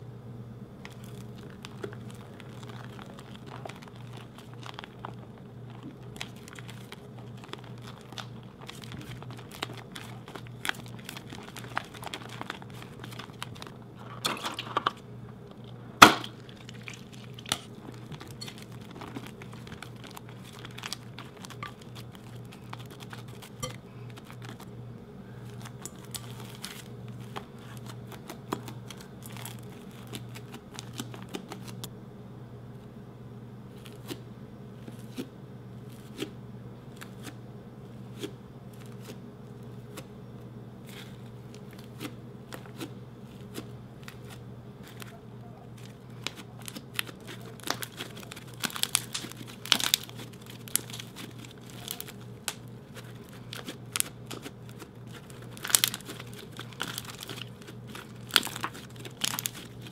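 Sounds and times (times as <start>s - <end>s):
steady low hum: 0.0s - 59.9s
slime crackling and squishing: 0.8s - 24.7s, 25.4s - 31.9s, 38.0s - 39.2s, 40.8s - 59.9s.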